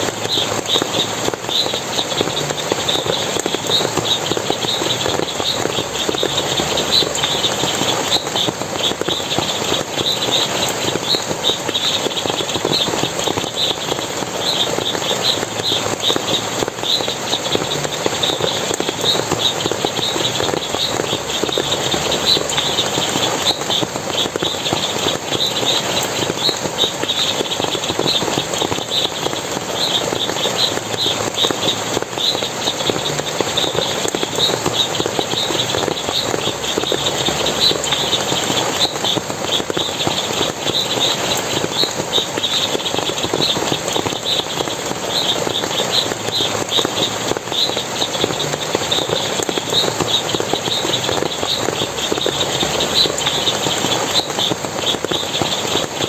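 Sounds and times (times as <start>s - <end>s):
high chirping: 0.0s - 56.0s
stream water splashing: 0.0s - 56.0s.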